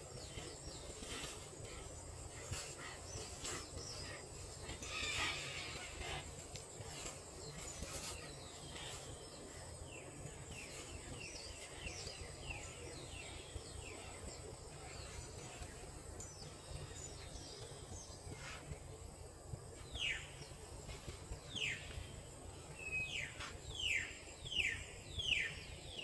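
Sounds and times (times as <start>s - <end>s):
bird singing: 0.0s - 26.0s.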